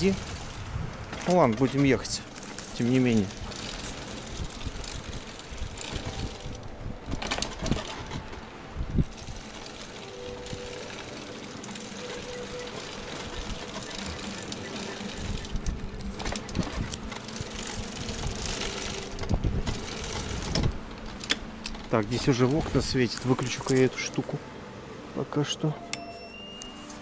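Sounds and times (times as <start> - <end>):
bicycle frame rattling: 0.0 - 24.4.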